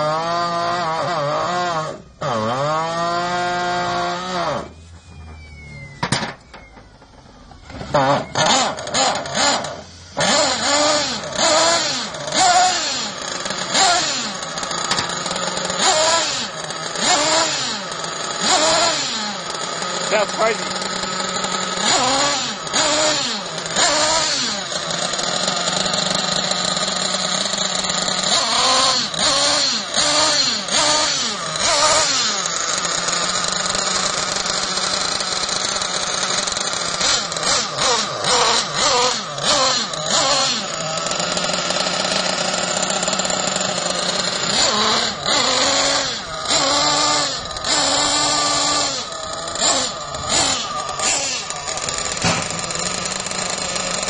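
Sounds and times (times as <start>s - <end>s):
nitro engine idling: 0.0s - 54.0s
nitro engine revving: 0.0s - 54.0s.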